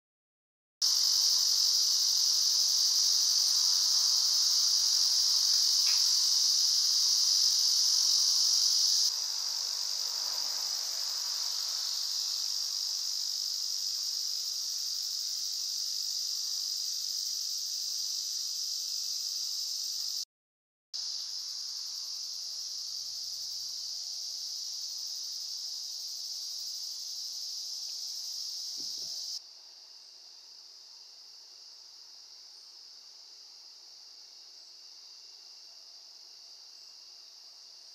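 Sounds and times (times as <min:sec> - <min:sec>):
insects chorus: 0:00.8 - 0:20.2, 0:21.0 - 0:37.9.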